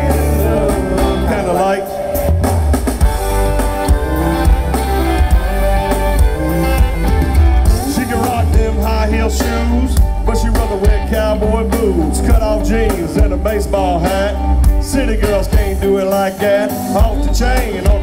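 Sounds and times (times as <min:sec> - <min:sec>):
vocals: 0:00.0 - 0:04.8, 0:07.7 - 0:18.0
live band playing: 0:00.0 - 0:18.0.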